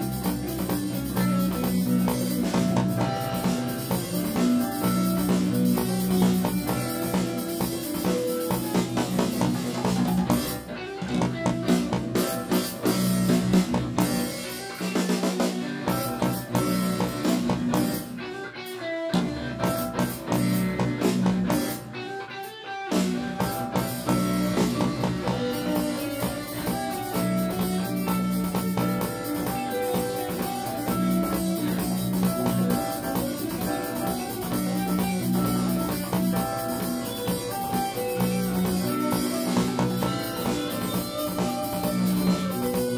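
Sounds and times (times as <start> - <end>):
bass: 0.0 - 18.3, 19.2 - 22.0, 22.9 - 42.9
drums: 0.0 - 42.9
guitar: 0.0 - 42.9
keyboards: 0.0 - 42.9.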